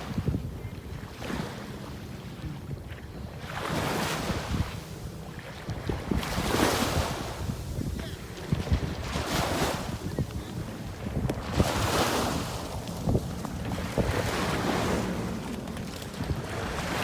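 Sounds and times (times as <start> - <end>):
jet ski engine rumble: 0.0 - 17.0
wind buffeting microphone: 0.0 - 17.0.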